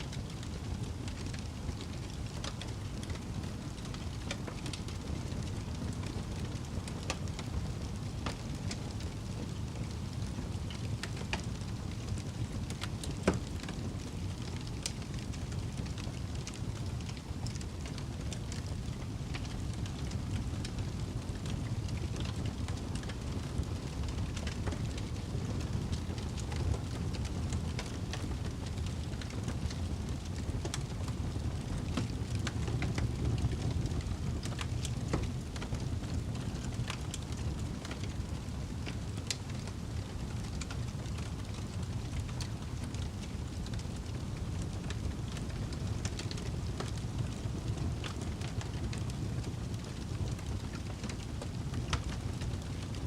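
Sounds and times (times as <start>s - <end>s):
fire crackling and popping: 0.0s - 53.0s
wood fire flames rumbling: 0.0s - 53.0s.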